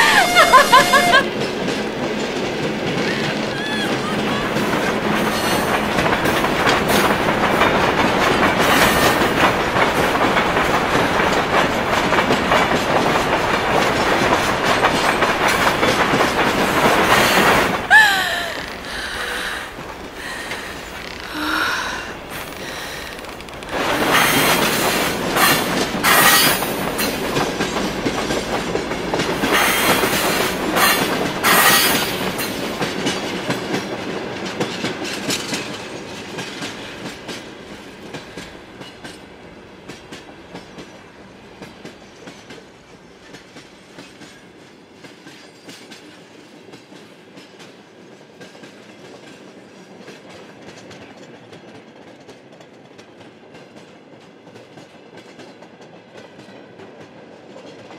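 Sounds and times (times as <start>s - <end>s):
train wheels clattering: 0.0s - 57.9s.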